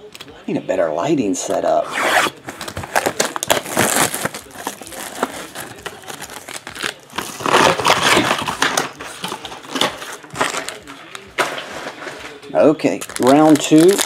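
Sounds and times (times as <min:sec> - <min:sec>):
plastic wrap crinkling: 0:02.2 - 0:14.0.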